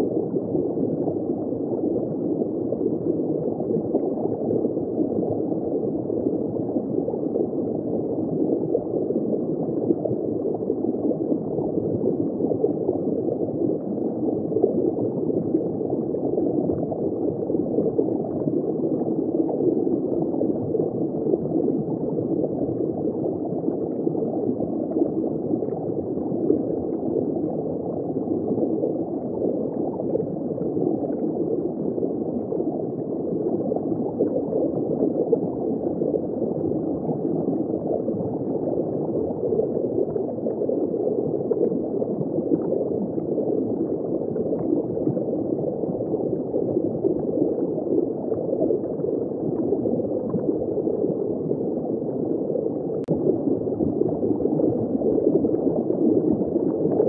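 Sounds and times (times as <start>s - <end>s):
aquarium water gurgling: 0.0s - 57.0s.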